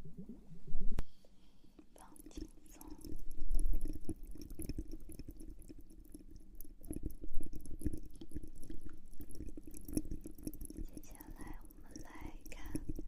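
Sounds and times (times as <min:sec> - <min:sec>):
faint low hum: 0:00.0 - 0:13.0
mouth clicks and smacks: 0:01.8 - 0:13.0.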